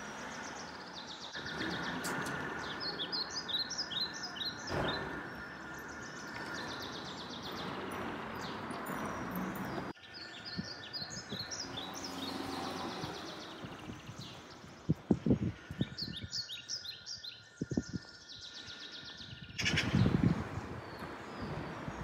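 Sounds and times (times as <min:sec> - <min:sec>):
outdoor background noise: 0:00.0 - 0:22.0
songbird chirping: 0:00.0 - 0:22.0.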